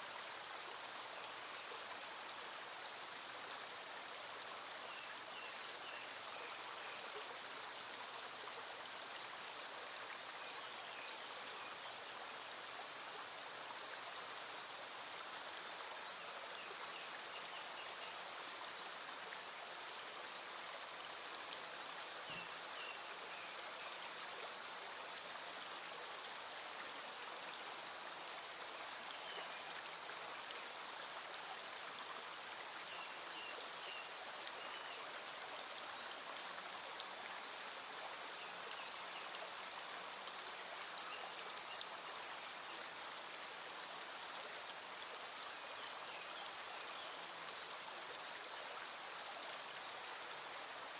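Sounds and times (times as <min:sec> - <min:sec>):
small stream flowing: 0:00.0 - 0:50.9.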